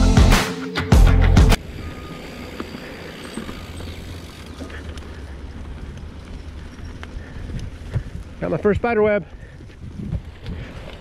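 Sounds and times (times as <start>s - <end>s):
bike clicks and rattles: 1.6s - 11.0s
mountain bike tyres on dirt: 1.6s - 11.0s.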